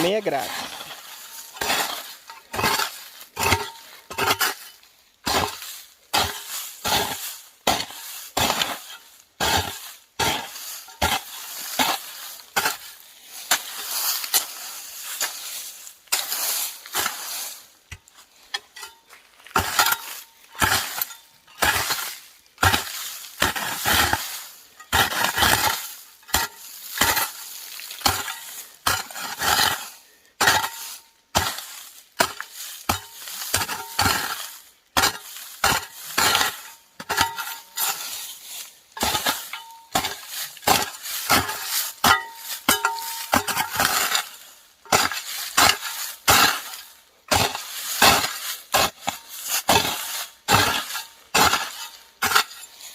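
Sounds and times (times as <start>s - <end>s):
hoe chopping into soil: 0.3s - 4.6s, 5.2s - 14.6s, 19.5s - 38.3s, 39.0s - 52.7s.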